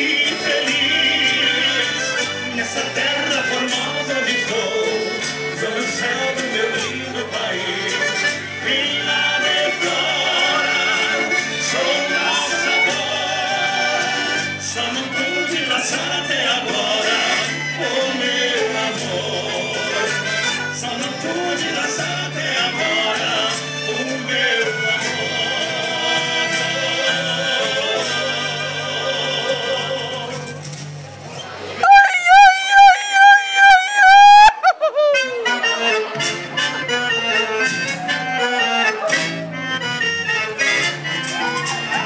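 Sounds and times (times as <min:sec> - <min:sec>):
live band playing: 0:00.0 - 0:42.0.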